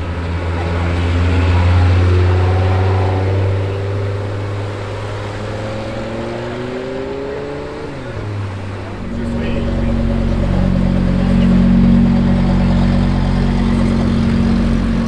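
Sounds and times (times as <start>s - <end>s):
car engine accelerating past: 0.0s - 15.0s.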